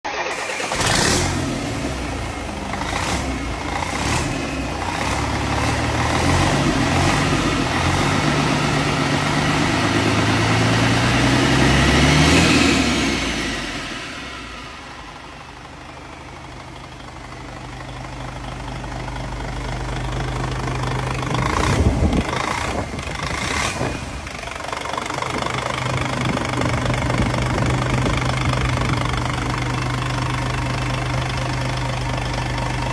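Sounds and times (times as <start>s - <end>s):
diesel engine revving and idling: 0.1s - 32.9s.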